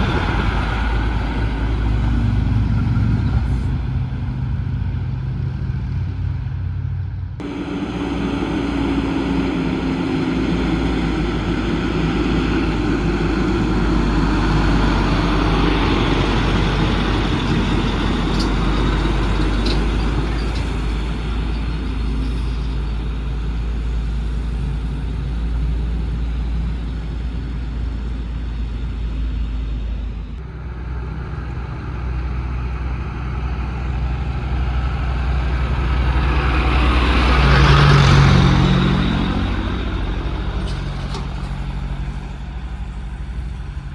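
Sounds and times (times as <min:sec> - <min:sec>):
heavy trucks engine drone: 0:00.0 - 0:43.9
truck passing: 0:00.0 - 0:43.9
tyre and road noise: 0:00.0 - 0:43.9.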